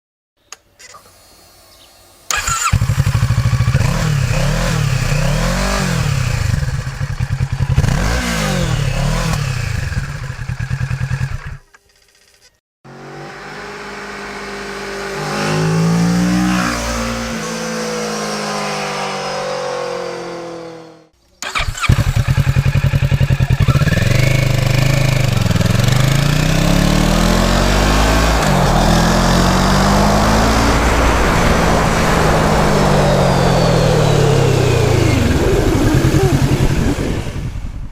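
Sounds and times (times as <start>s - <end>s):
motorcycle engine revving: 1.8s - 37.9s
motorcycle accelerating through gears: 2.3s - 11.7s, 12.9s - 37.9s.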